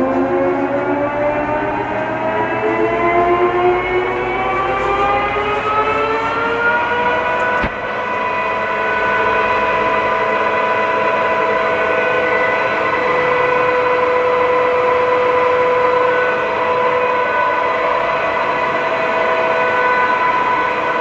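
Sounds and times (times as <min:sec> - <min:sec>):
lathe motor whine: 0:00.0 - 0:21.0.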